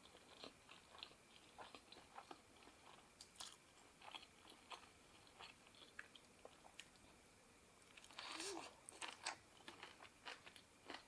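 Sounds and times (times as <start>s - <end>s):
person chewing food: 0.0s - 7.2s, 7.9s - 11.0s.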